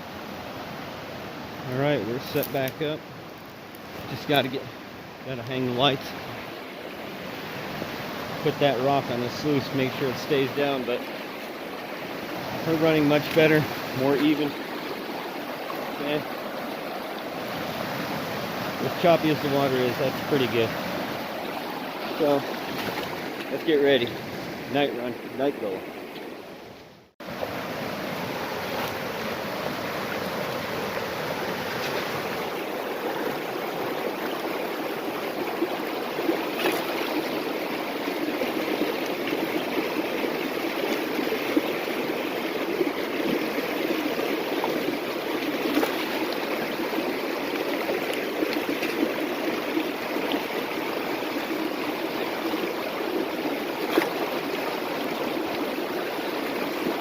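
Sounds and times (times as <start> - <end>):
river water rushing over rocks: 3.5 - 24.5, 27.2 - 57.0.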